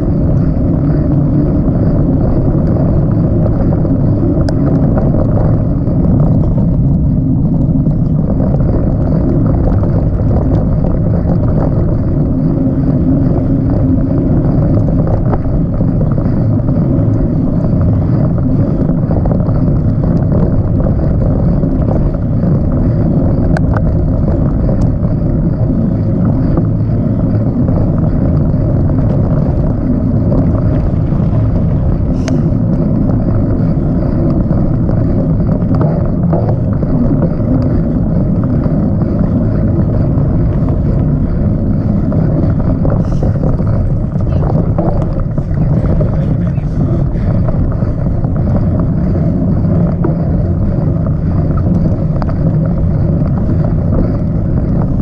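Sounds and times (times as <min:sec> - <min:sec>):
bicycle rumbling over dirt trail: 0:00.0 - 0:55.0
wind on microphone: 0:00.0 - 0:55.0.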